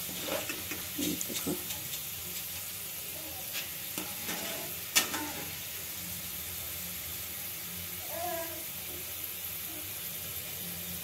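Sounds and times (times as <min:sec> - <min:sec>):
food deep-frying in hot oil: 0:00.0 - 0:11.0.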